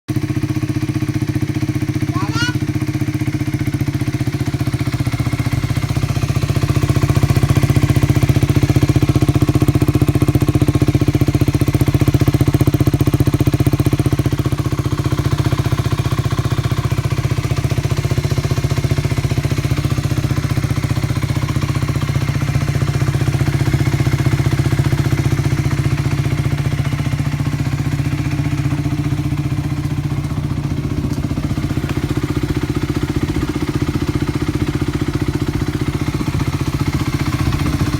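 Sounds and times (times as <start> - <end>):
motorcycle idling: 0.1 - 37.9.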